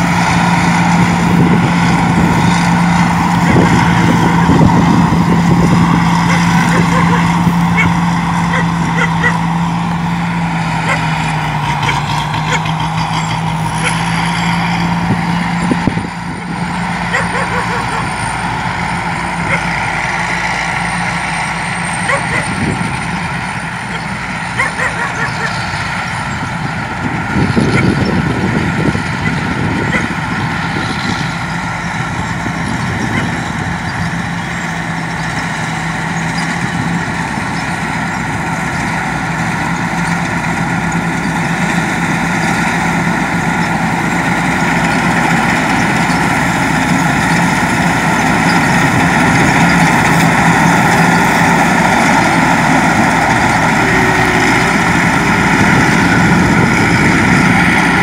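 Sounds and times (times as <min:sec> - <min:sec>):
combine harvester engine and threshing: 0:00.0 - 0:58.0.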